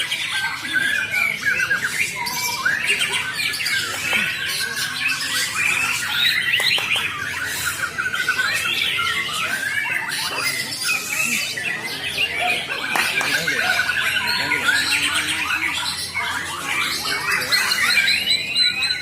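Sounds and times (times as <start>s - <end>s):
bird singing chirps and trills: 0.0s - 19.0s.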